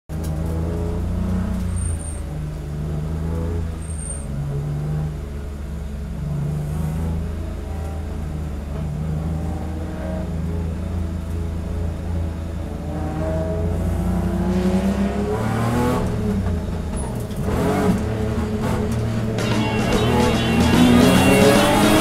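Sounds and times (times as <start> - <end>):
race car engine at low revs: 0.1 - 22.0.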